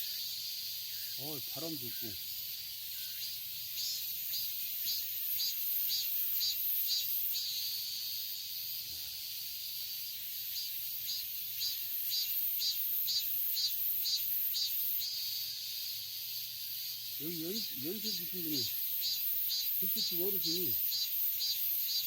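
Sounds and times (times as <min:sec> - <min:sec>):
cicadas pulsing call: 0:00.0 - 0:22.0
high insect hiss: 0:00.0 - 0:22.0.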